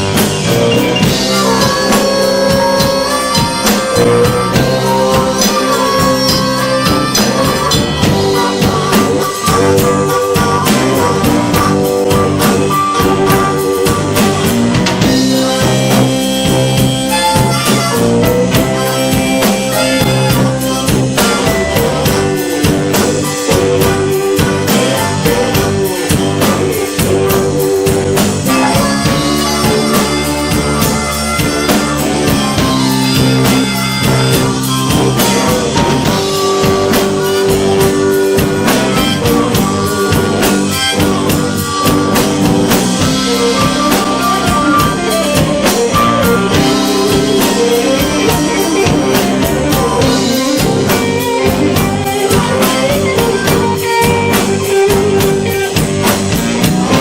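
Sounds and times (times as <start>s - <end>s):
rock band playing blues: 0.0s - 57.0s.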